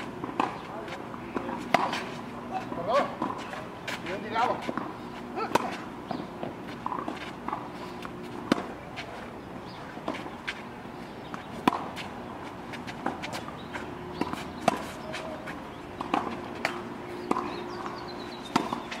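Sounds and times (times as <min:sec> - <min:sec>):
tennis ball hit by rackets: 0:00.0 - 0:09.2, 0:10.0 - 0:12.1, 0:12.7 - 0:19.0
shoes shuffling on clay: 0:00.0 - 0:19.0
tennis ball bouncing: 0:00.0 - 0:19.0.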